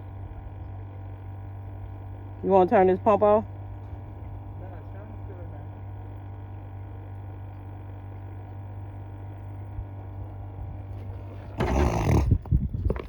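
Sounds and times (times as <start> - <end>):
aerator pump humming: 0.0 - 13.0.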